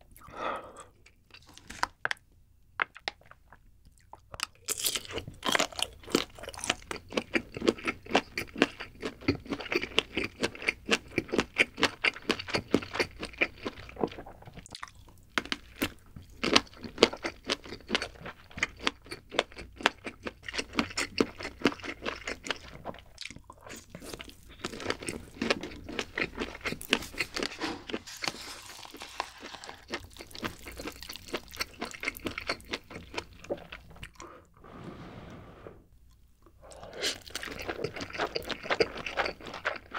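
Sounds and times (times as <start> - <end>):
crisp chewing of sausage: 2.9 - 34.3, 36.1 - 39.9.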